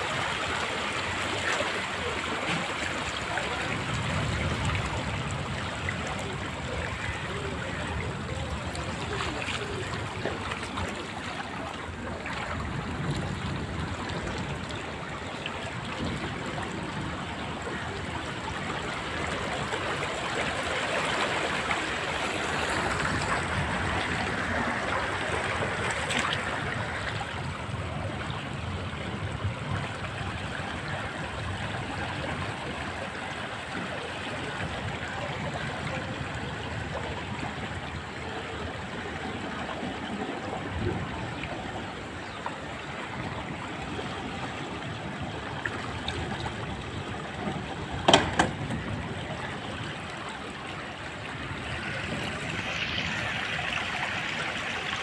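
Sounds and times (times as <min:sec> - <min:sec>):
seawater rushing: 0:00.0 - 0:55.0.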